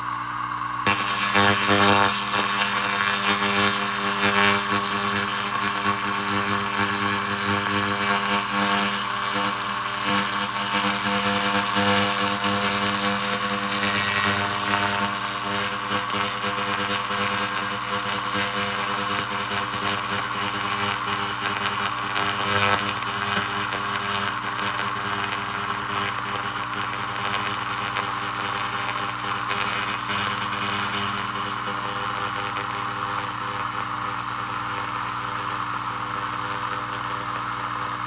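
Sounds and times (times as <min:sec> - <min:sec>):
laser rust remover buzzing: 0:00.0 - 0:38.0.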